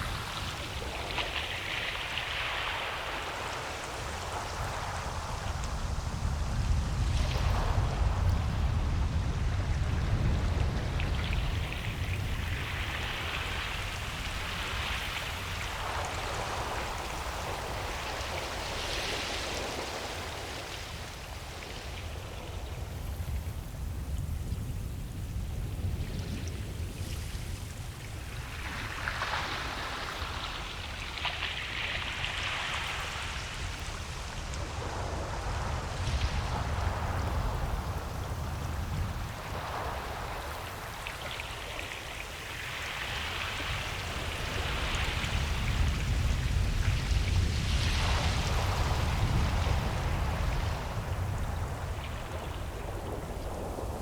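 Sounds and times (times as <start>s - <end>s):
ocean surf rumbling: 0.0s - 54.0s.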